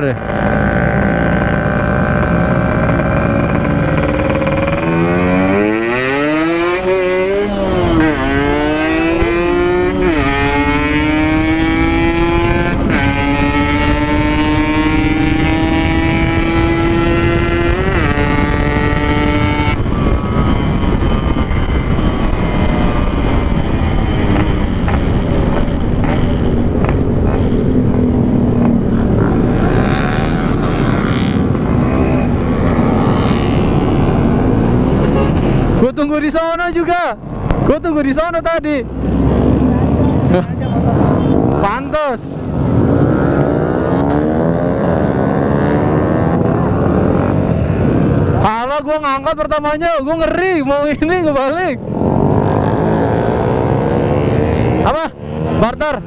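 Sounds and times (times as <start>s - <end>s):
two-stroke motorcycle engine revving: 0.0s - 36.0s, 37.2s - 48.6s, 51.3s - 56.0s
steady rush of noise: 0.0s - 56.0s.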